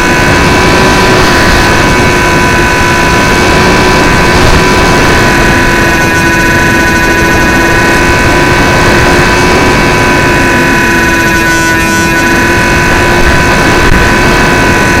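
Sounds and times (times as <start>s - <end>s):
wind buffeting microphone: 0.0s - 11.5s, 12.1s - 15.0s
electric motor and propeller whine: 0.0s - 15.0s.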